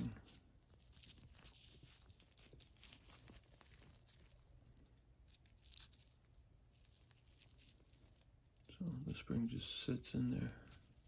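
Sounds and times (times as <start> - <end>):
gloved fingers rustling: 0.0 - 11.0.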